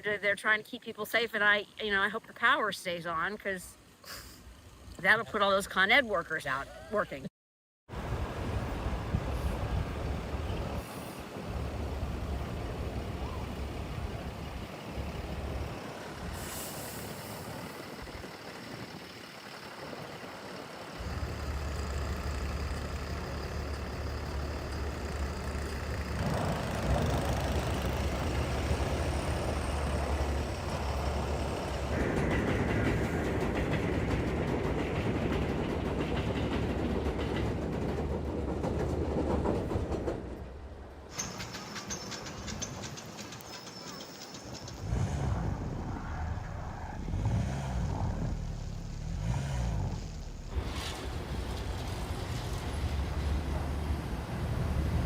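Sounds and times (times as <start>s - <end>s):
low vehicle rumble: 7.9s - 55.0s.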